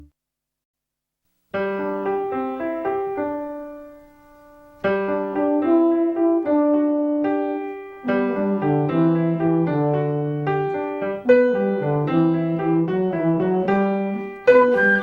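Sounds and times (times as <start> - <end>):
piano chords: 1.6 - 15.0.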